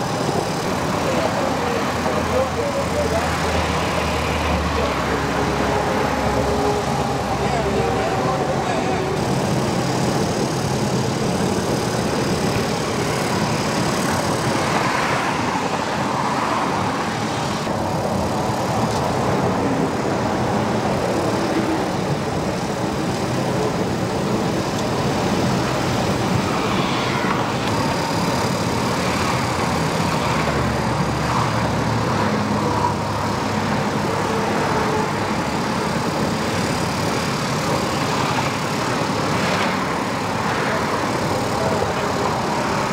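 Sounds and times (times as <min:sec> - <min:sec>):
road traffic drone: 0:00.0 - 0:42.9.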